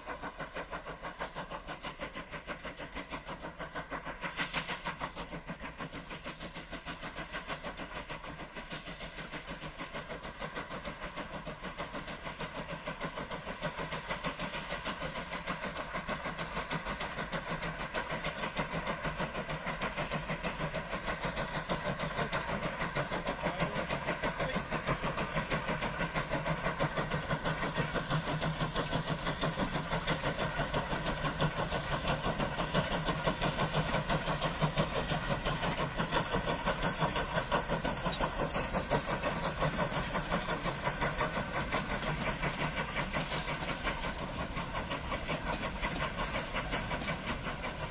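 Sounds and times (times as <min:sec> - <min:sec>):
train passing: 0:00.0 - 0:47.9.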